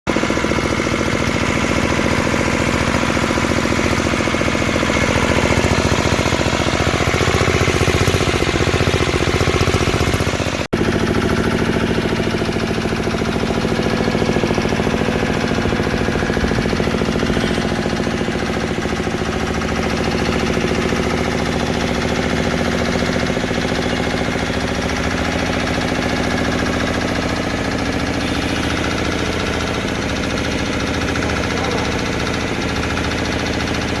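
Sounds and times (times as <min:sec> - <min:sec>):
diesel engine knocking: 0:00.1 - 0:34.0.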